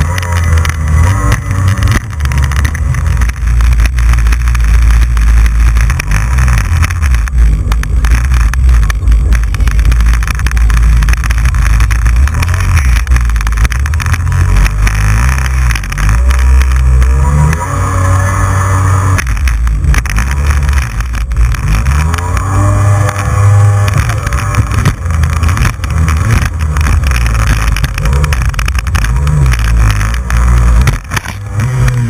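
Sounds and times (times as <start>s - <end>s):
jet ski engine rumbling: 0.0s - 32.0s.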